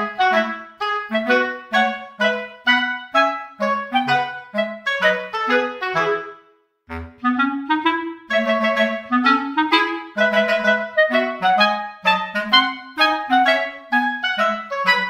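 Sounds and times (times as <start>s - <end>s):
lively wind instrument melody: 0.0s - 15.0s.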